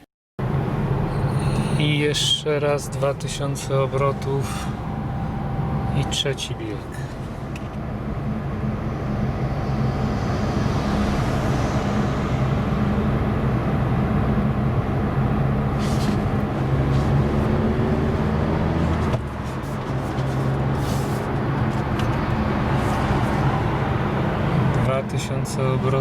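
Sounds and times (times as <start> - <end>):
car engine hum: 0.4 - 26.0
tyre and road noise: 0.4 - 26.0.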